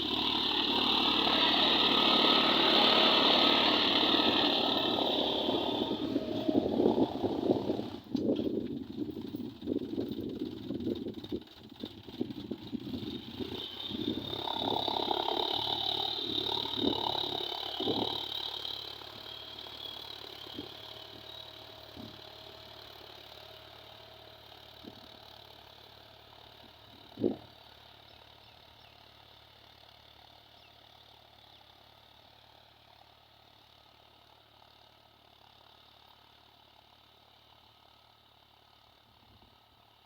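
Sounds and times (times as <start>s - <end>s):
diesel engine running faintly: 0.0s - 40.0s.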